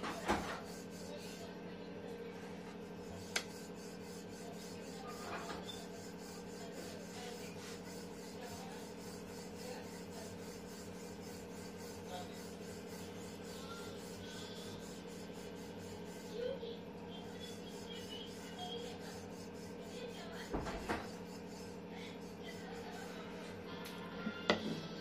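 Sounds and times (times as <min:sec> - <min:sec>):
rolling pin rubbing dough: 0:00.0 - 0:24.2
steady low hum: 0:00.0 - 0:25.0.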